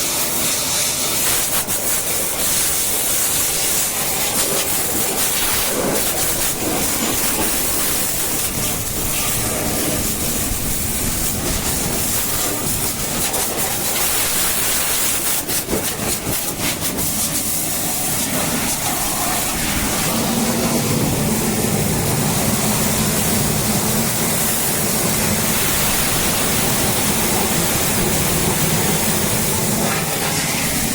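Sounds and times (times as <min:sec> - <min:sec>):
water jet spraying: 0:00.0 - 0:30.9.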